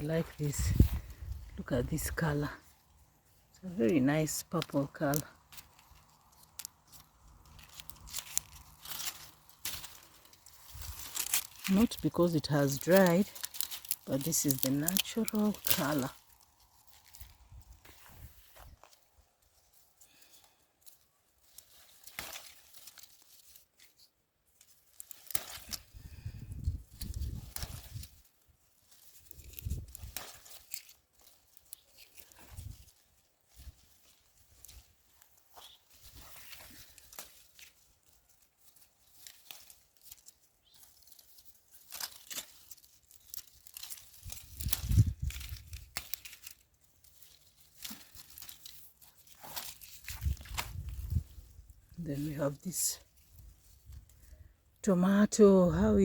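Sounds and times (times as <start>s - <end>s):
dry leaves rustling: 0.0s - 56.0s.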